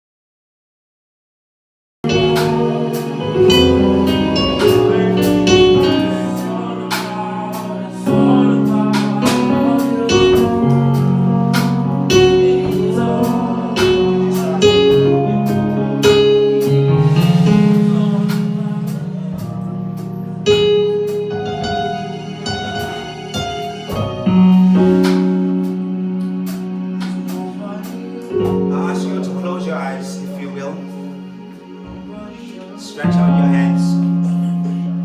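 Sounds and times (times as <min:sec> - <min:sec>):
slow worship music on keyboard: 0:02.0 - 0:35.0.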